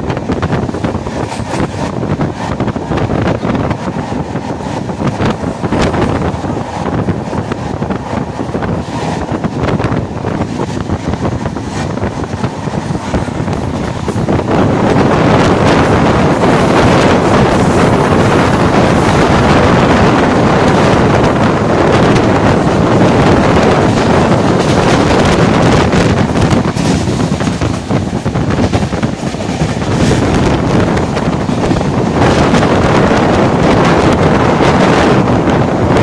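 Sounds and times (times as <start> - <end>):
train running on track: 0.0 - 36.0
wind buffeting microphone: 0.0 - 36.0.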